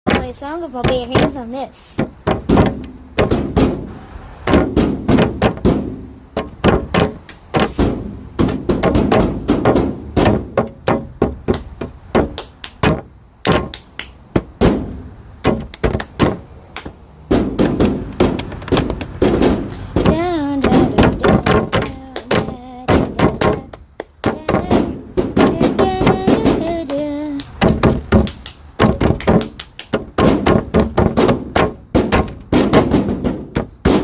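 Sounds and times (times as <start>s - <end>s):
hands knocking hollow thunks: 0.1s - 3.9s, 4.5s - 34.0s.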